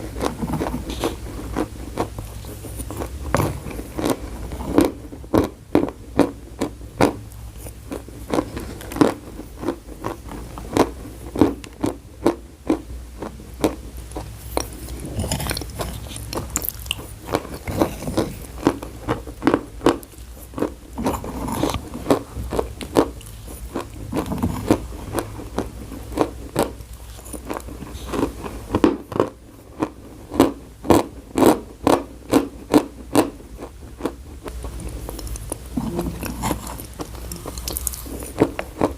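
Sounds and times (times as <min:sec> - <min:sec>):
person chewing chalk: 0:00.0 - 0:38.9.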